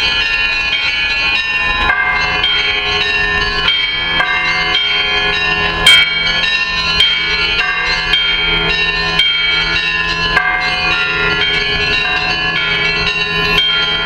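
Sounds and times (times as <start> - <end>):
church bells pealing: 0.0 - 14.0.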